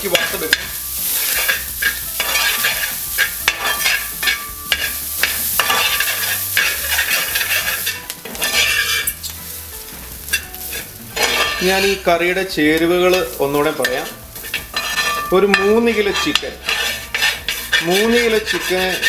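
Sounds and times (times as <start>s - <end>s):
coconut sizzling in oil: 0.0s - 19.0s
metal spoon scraping a pan: 0.0s - 19.0s.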